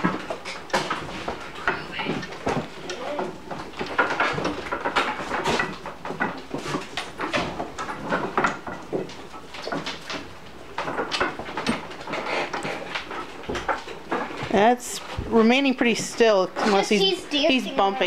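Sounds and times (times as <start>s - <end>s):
goats rustling and knocking: 0.0s - 18.0s.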